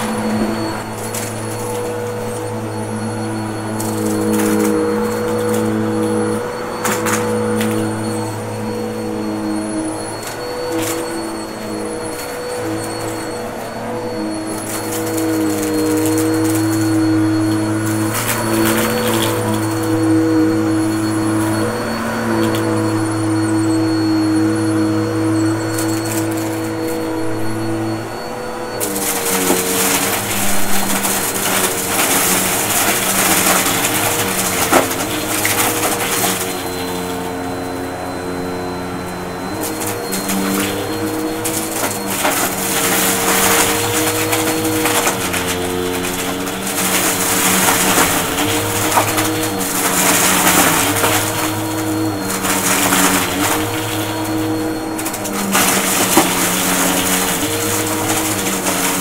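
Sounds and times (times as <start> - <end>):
debris rattling in vacuum: 0.0 - 59.0
vacuum cleaner motor hum: 0.0 - 59.0.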